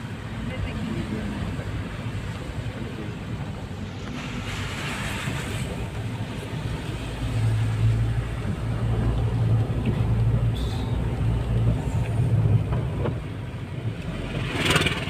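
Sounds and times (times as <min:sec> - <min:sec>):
vehicle engine and road drone: 0:00.0 - 0:15.0.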